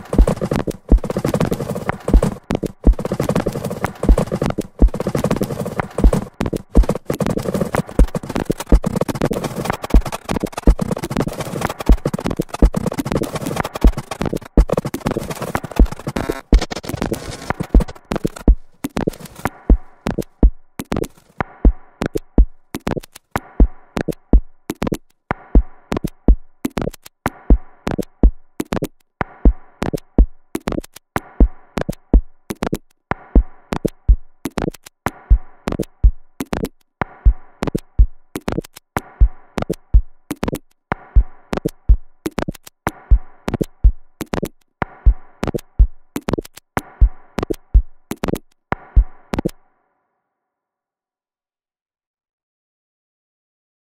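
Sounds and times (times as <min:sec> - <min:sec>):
drum machine beat: 0:00.0 - 0:49.6.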